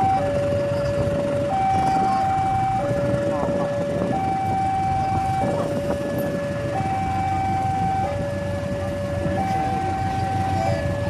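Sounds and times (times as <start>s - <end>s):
two-tone warning siren: 0.0s - 11.0s.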